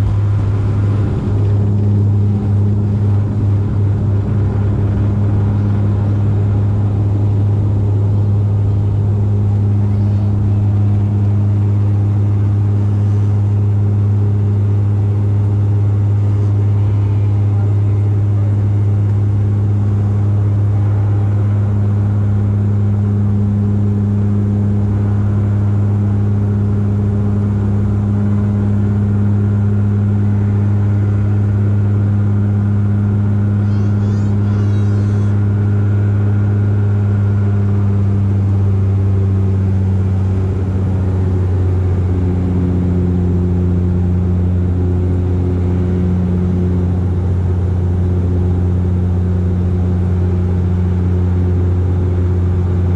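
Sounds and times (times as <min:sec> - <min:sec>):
turboprop engines droning in cabin: 0:00.0 - 0:52.9.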